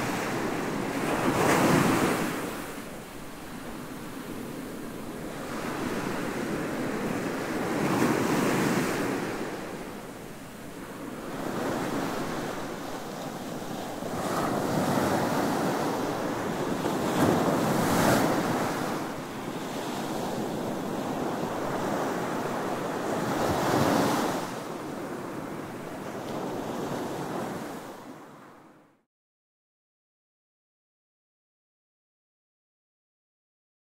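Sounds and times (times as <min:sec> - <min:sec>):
ocean surf breaking on beach: 0:00.0 - 0:28.5.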